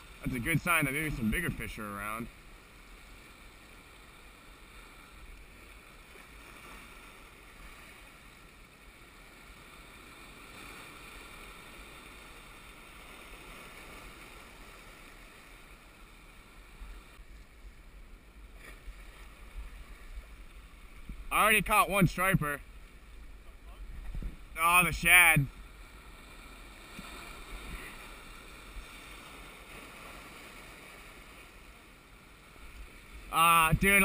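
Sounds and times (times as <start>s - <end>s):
small waves washing around rocks: 0.0s - 23.1s, 24.0s - 34.0s.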